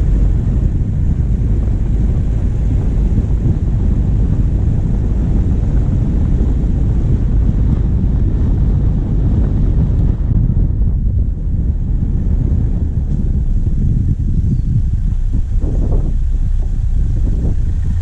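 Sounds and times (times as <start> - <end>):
diesel engine running: 0.0 - 18.0
low wind rumble on microphone: 0.0 - 18.0.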